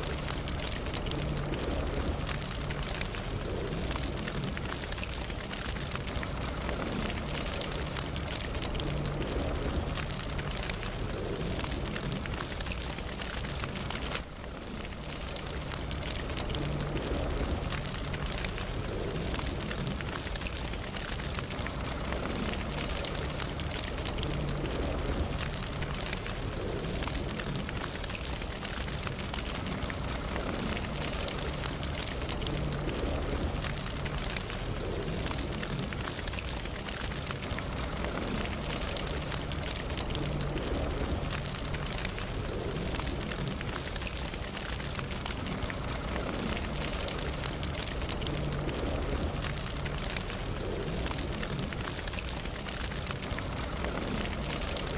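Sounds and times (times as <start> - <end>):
campfire flames rushing: 0.0 - 54.9
crackles and pops of burning wood: 0.0 - 54.9.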